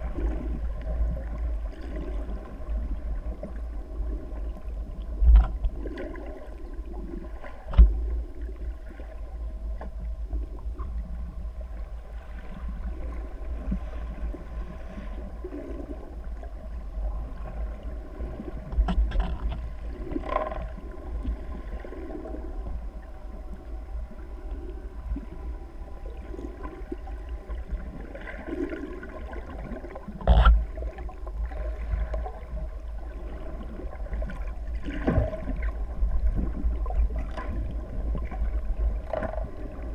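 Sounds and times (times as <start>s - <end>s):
gurgling water and bubbles: 0.0s - 39.9s
low underwater rumble: 0.0s - 39.9s.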